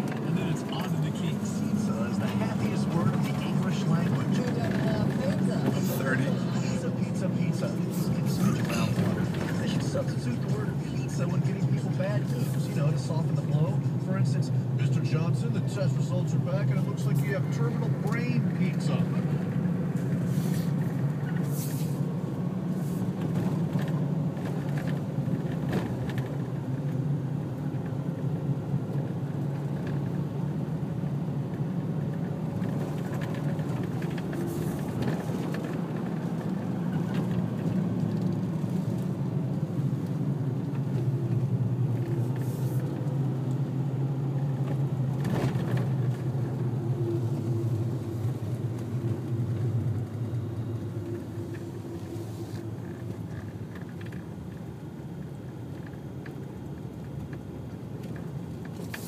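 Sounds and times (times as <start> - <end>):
car driving on paved road: 0.0 - 59.0.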